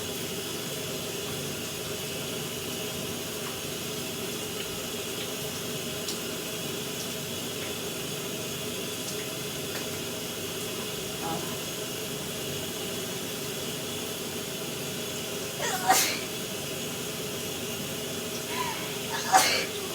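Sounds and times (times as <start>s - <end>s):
shower spray running: 2.7s - 19.9s.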